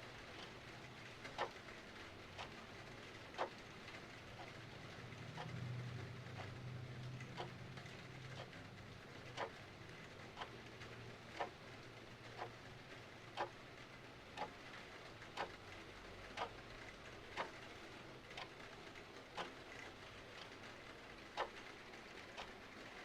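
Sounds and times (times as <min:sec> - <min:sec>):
faint rain hiss: 0:00.0 - 0:23.0
clock ticking: 0:00.3 - 0:01.7, 0:02.3 - 0:02.6, 0:03.2 - 0:04.6, 0:05.2 - 0:13.7, 0:14.3 - 0:22.6.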